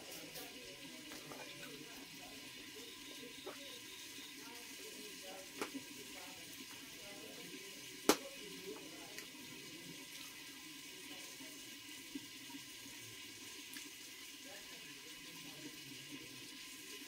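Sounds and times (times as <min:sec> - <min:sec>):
pot bubbling over fire: 0:00.0 - 0:17.0.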